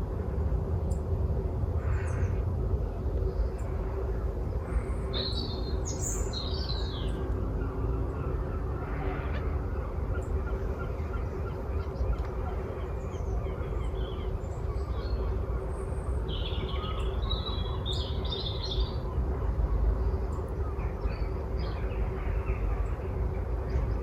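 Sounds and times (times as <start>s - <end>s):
faint constant hum: 0.0s - 24.0s
birds calling and chirping: 0.8s - 24.0s.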